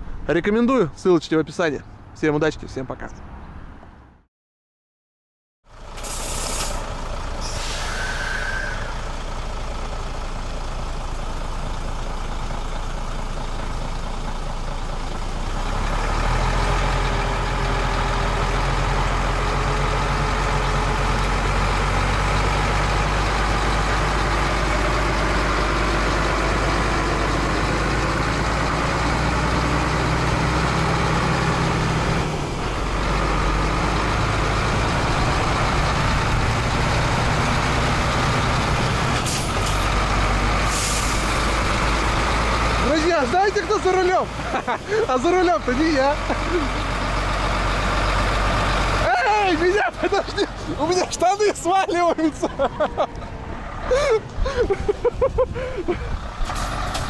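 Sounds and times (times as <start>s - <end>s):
truck diesel engine running: 5.7s - 57.0s.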